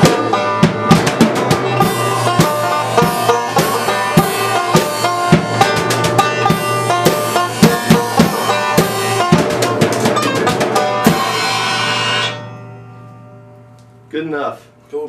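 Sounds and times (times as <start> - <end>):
rock drum beat: 0.0 - 13.3
plucked banjo: 0.0 - 13.6.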